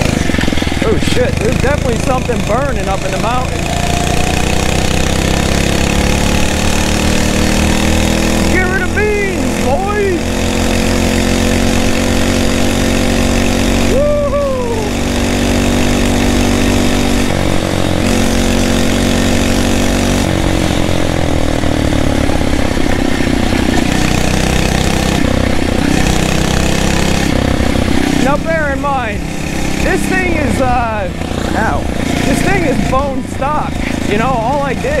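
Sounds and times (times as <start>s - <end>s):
small engine running hard: 0.0s - 35.0s.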